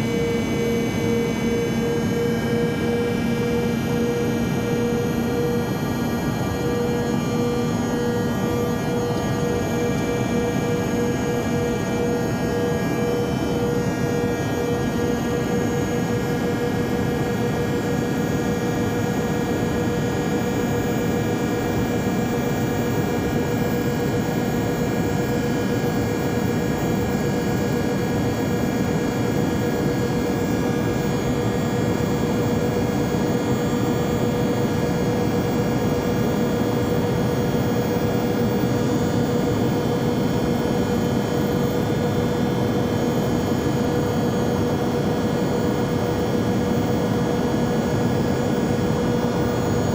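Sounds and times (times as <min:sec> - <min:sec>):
jet cabin engine and air noise: 0:00.0 - 0:49.9.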